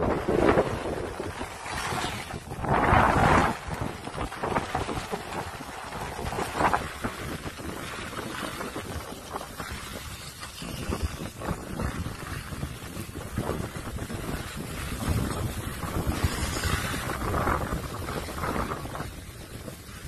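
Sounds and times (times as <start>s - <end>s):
skis sliding over snow: 0.0s - 20.0s
wind buffeting microphone: 0.0s - 20.0s.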